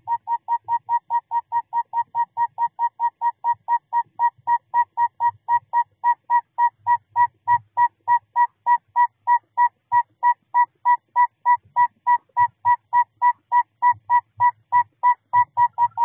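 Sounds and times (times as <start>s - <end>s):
owl whistled toots: 0.0s - 16.0s.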